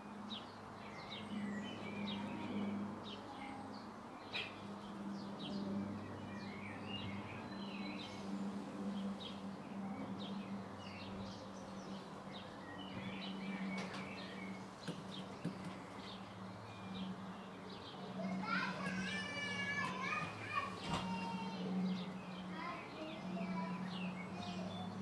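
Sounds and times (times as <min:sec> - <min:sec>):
garden birds chirping and singing: 0:00.0 - 0:25.0.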